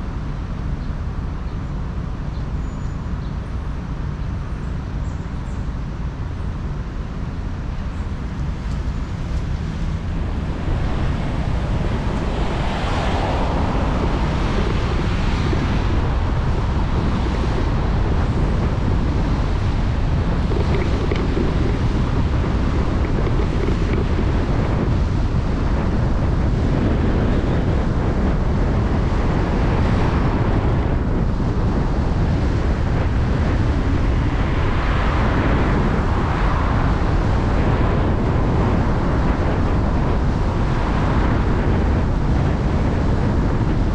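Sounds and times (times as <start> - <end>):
road noise: 0.0 - 43.9
wind buffeting microphone: 0.0 - 43.9.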